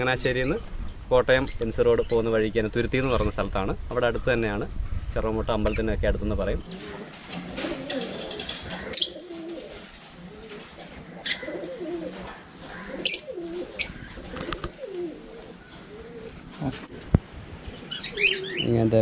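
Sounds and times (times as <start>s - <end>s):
birds cooing: 0.0s - 19.0s.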